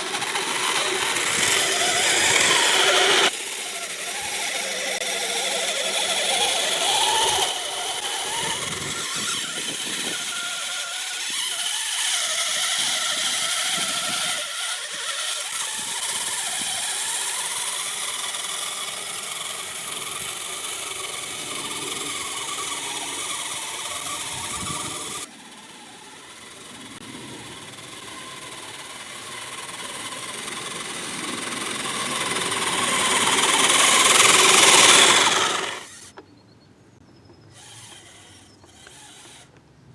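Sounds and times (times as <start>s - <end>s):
electric motor and gearbox whining: 0.0s - 36.2s, 37.3s - 39.6s.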